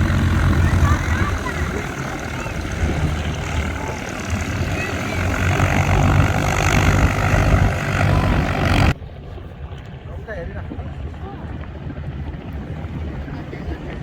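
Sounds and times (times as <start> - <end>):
propeller aircraft engine drone: 0.0 - 14.0.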